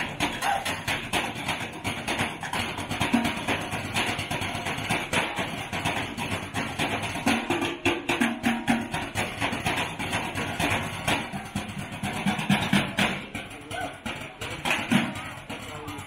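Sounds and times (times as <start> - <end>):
drumsticks beating metal trash cans: 0.0 - 16.0.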